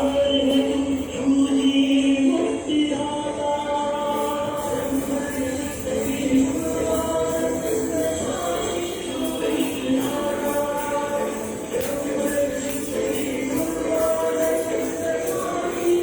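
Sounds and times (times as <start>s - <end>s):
jingling tambourine-like beat: 0.0s - 2.2s, 3.7s - 16.0s
group of voices singing: 0.0s - 16.0s.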